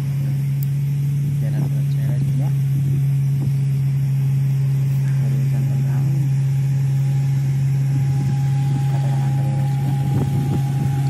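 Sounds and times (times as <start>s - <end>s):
faint high whine: 0.0s - 11.0s
low mechanical hum: 0.0s - 11.0s.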